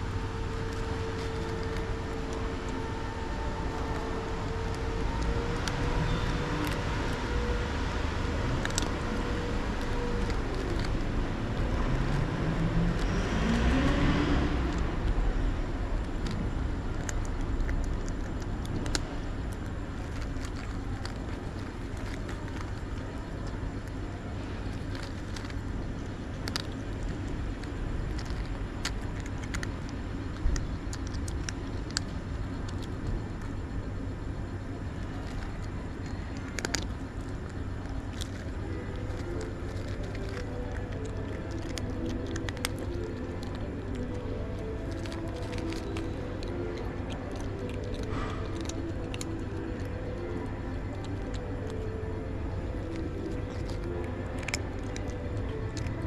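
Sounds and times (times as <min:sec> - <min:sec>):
street traffic rumble: 0:00.0 - 0:56.0
vehicle passing: 0:00.0 - 0:56.0.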